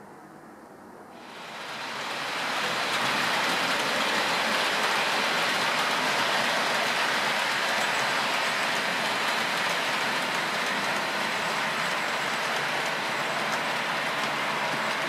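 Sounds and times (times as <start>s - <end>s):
model train wheels hissing on rails: 1.2s - 15.0s.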